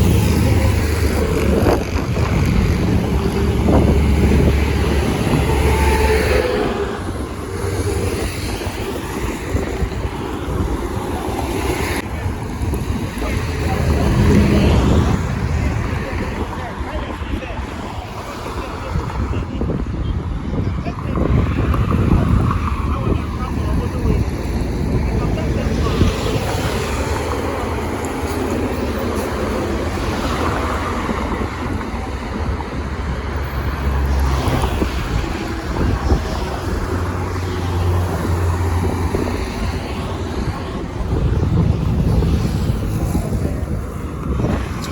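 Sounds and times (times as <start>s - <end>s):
low rumble of motorway traffic: 0.0s - 44.9s
wind buffeting microphone: 0.0s - 44.9s.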